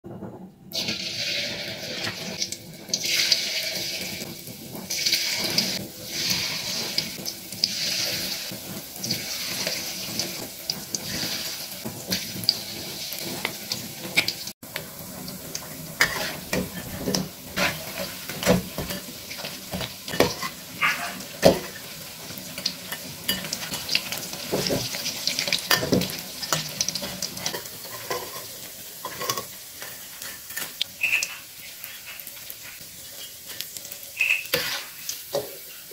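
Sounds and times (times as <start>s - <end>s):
food sizzling in hot oil: 0.7s - 35.9s.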